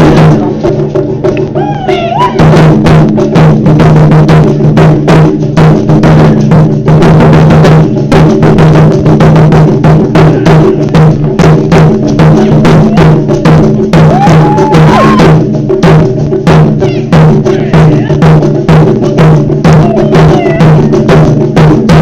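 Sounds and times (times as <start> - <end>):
taiko drums playing: 0.0 - 22.0.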